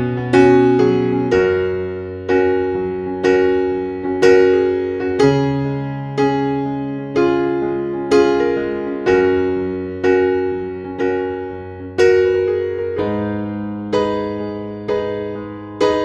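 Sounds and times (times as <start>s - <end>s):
soft electric piano chords: 0.0s - 16.0s.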